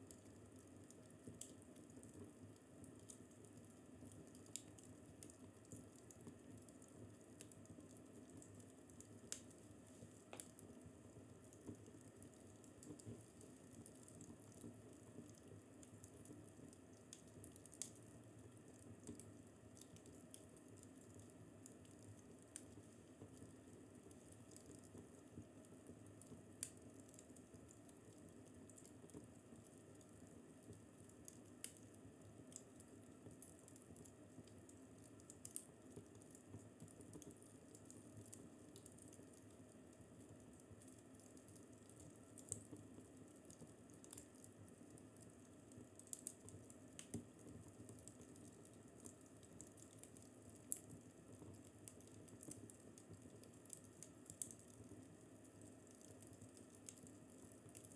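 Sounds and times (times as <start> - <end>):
low steady hiss: 0.0 - 57.9
wood fire crackling: 0.0 - 57.9.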